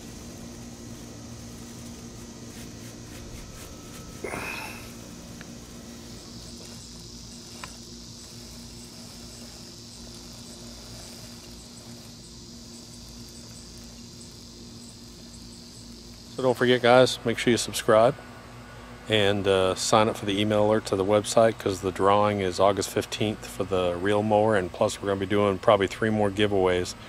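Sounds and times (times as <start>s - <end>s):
insects chirring: 0.0s - 27.0s
steady low hum: 0.0s - 27.0s.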